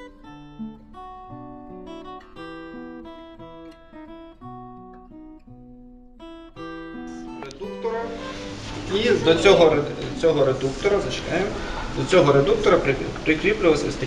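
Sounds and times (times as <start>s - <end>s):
acoustic guitar picked melody: 0.0s - 14.0s.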